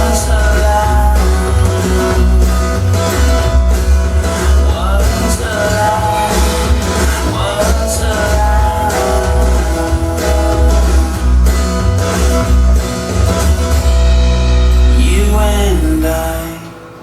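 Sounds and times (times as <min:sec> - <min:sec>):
rock song over speakers: 0:00.0 - 0:17.0.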